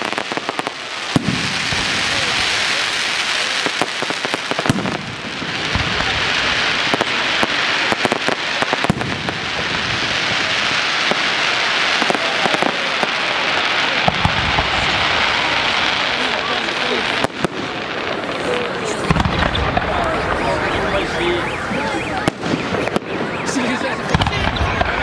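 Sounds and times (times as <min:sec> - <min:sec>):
fireworks bangs and pops: 0:00.0 - 0:25.0
fireworks crackling: 0:00.0 - 0:25.0.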